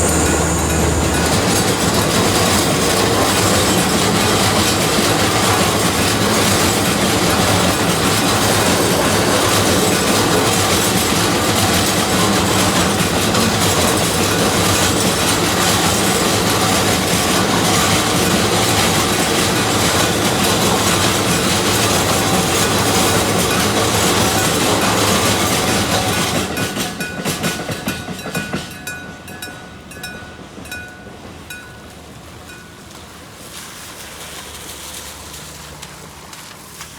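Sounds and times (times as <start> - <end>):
crossing warning bell clanging: 0.0 - 33.2
freight train wheels clattering: 0.0 - 36.9.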